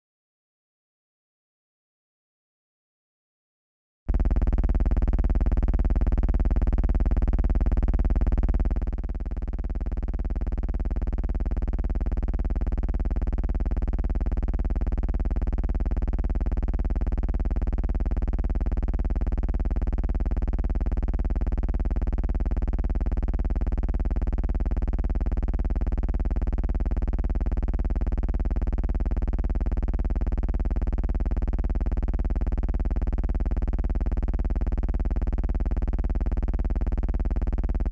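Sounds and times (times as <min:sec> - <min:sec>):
low buzzing hum: 0:04.1 - 0:37.9.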